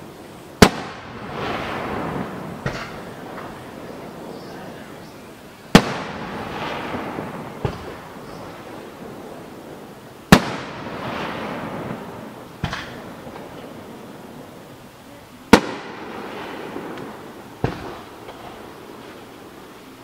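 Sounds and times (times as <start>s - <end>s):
firework shells bursting: 0.6s - 5.0s, 5.7s - 14.8s, 15.5s - 19.9s.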